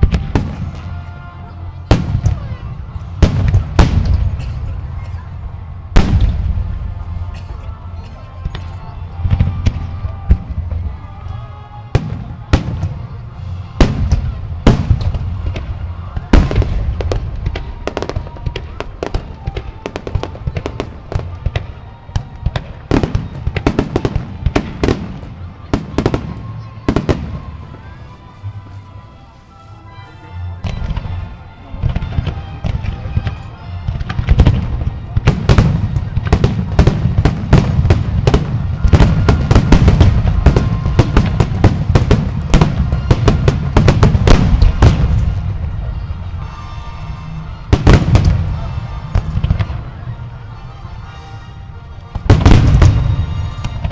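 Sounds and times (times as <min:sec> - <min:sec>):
fireworks bangs and crackling pops: 0:00.0 - 0:01.2, 0:01.8 - 0:05.3, 0:05.9 - 0:07.3, 0:08.4 - 0:28.0, 0:31.8 - 0:46.6, 0:47.7 - 0:50.0, 0:52.1 - 0:53.9.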